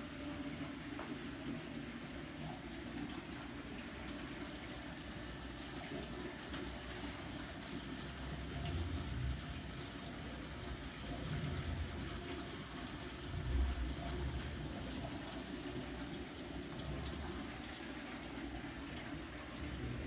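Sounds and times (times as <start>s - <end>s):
aquarium filter water flow: 0.0s - 20.0s.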